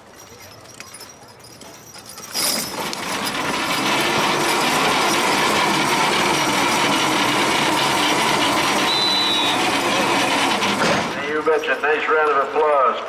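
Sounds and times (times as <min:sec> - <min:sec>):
machine grinding and rattling: 0:01.5 - 0:13.0.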